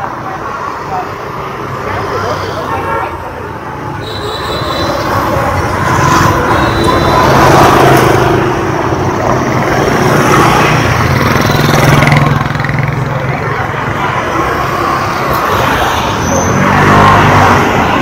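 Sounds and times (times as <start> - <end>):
motor scooters passing: 0.0 - 18.0.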